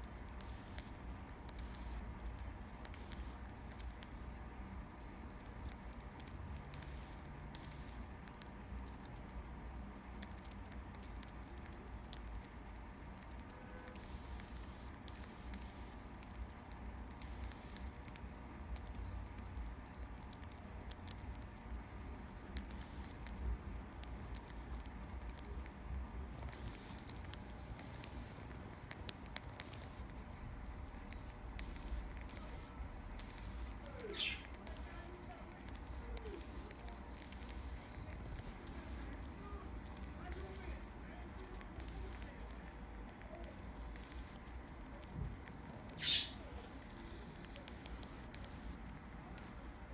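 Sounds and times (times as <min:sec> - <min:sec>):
bird beak cracking seeds: 0:00.0 - 0:04.4, 0:05.3 - 0:49.8.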